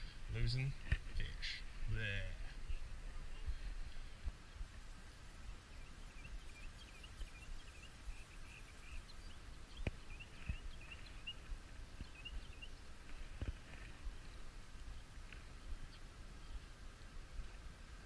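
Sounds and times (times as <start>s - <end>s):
small birds chirping: 0.0s - 17.7s.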